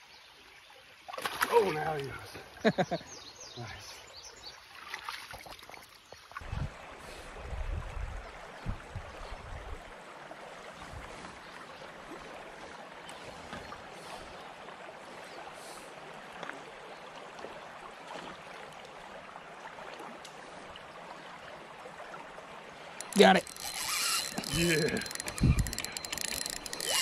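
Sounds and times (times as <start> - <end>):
creek water rushing: 1.1 - 2.8, 6.7 - 27.0.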